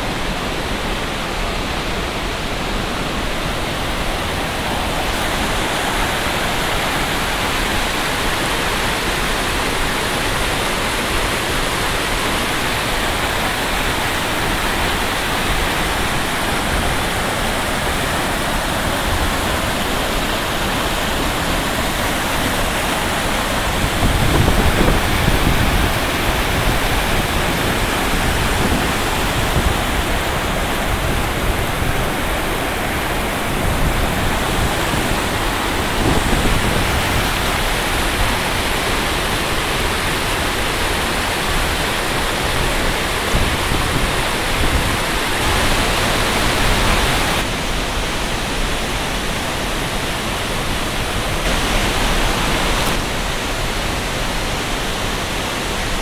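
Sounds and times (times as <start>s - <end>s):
stream pouring over rocks: 0.0s - 56.0s
waterfall rushing: 0.0s - 56.0s.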